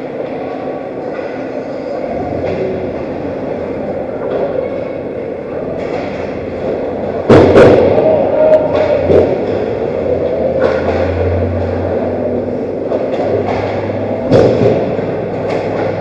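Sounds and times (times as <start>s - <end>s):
ice hockey rink noise: 0.0s - 16.0s.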